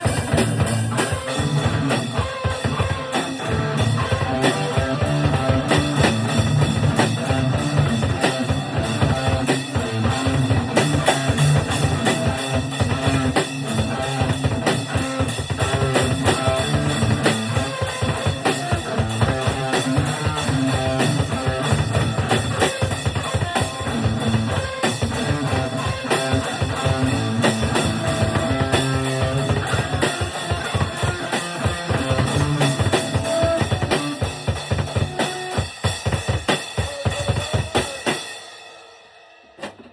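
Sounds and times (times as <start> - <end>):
electric guitar: 0.0 - 39.0
drum kit beat: 0.0 - 39.9
rock band playing: 0.0 - 39.9.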